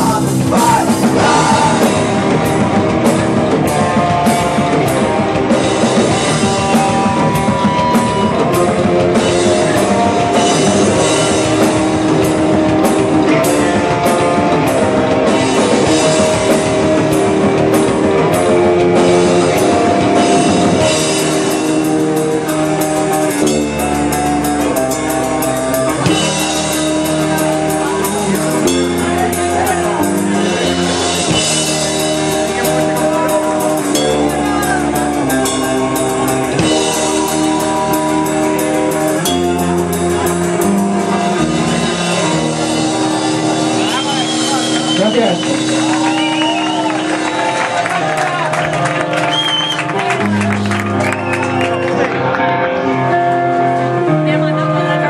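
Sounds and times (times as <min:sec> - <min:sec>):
hardcore band playing live: 0:00.0 - 0:55.0.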